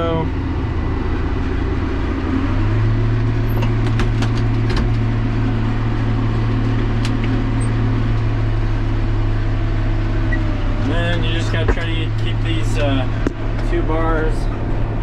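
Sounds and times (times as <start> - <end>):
tractor engine under load: 0.0 - 15.0.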